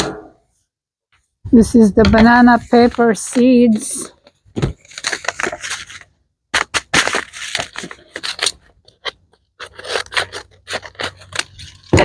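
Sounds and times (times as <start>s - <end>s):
paper packet crinkling: 2.3s - 12.0s.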